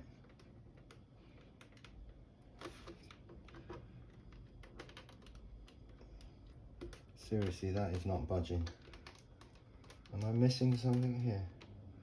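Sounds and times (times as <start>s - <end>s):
plastic clicks and creaks: 0.0s - 11.8s.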